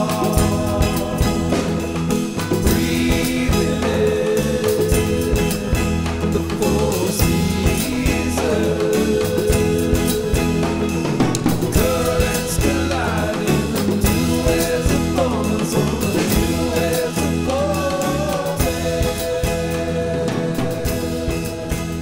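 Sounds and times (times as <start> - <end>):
drums and steady beat: 0.0 - 22.0
song with singing voice: 0.0 - 22.0.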